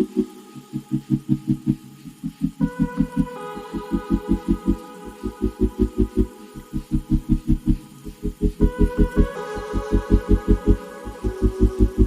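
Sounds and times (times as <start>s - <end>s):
pulsing bass beat: 0.0s - 12.0s
sustained synth chords: 0.0s - 12.0s.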